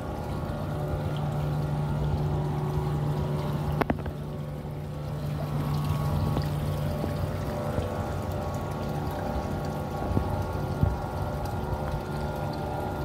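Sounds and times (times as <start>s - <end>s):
fountain water pouring into pool: 0.0s - 13.0s
low hum: 0.0s - 13.0s.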